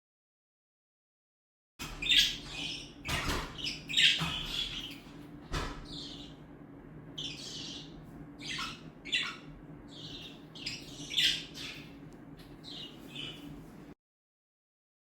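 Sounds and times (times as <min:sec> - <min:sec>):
parrots squawking and chirping: 0:01.8 - 0:13.9
steady low hum: 0:01.8 - 0:14.0.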